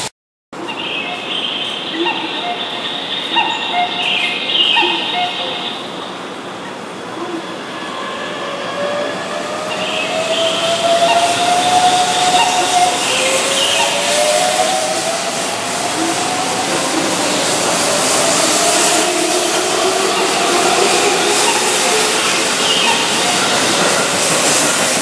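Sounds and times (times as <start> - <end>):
train cars rolling by: 0.0 - 25.0
electric train inverter whine: 1.0 - 25.0.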